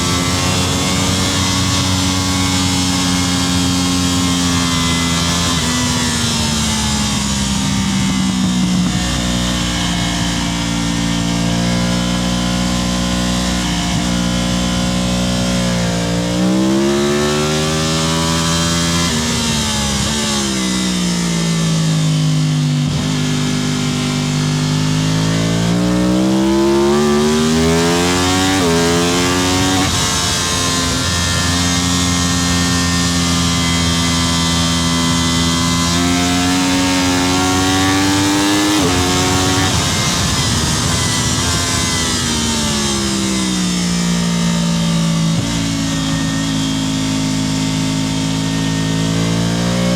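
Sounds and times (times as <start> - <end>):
racing motorcycle engine: 0.0 - 49.9.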